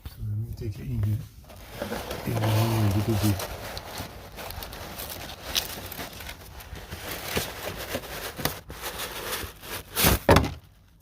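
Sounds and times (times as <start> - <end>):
objects being handled: 1.4 - 10.9.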